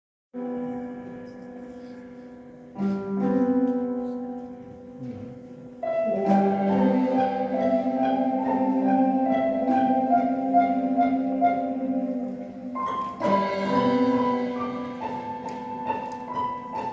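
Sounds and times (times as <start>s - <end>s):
ensemble playing held chords: 0.4s - 16.9s.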